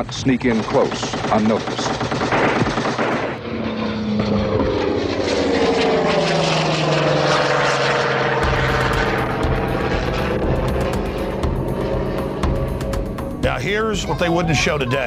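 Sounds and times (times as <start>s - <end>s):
propeller aircraft engine passing: 0.0s - 15.0s.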